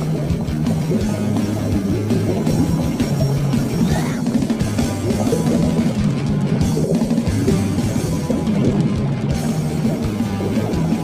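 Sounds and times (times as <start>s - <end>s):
fast hardcore rock music: 0.0s - 11.0s.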